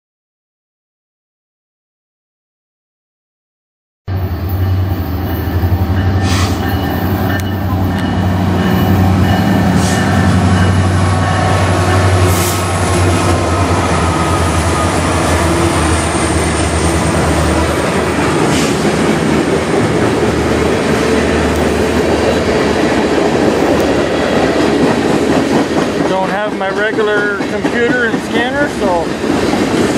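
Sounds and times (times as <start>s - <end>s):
diesel locomotive engine drone: 4.1s - 29.9s
train wheels clacking: 5.4s - 29.9s.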